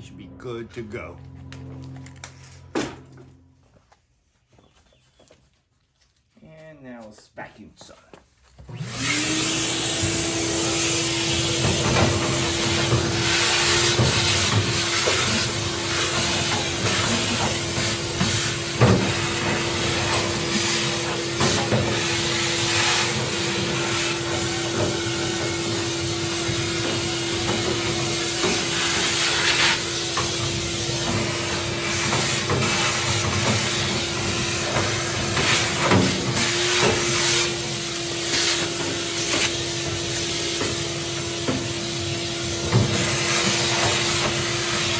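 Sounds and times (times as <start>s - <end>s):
vacuum cleaner running: 1.1s - 3.9s, 8.6s - 44.9s.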